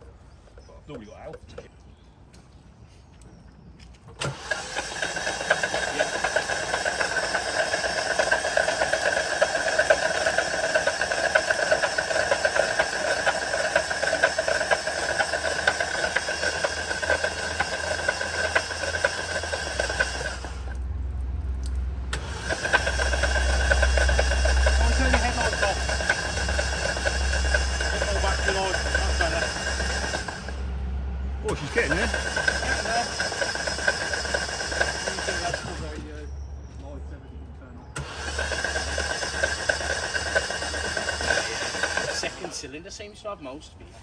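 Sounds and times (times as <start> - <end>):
starter motor cranking engine: 4.1 - 36.5, 37.9 - 44.0.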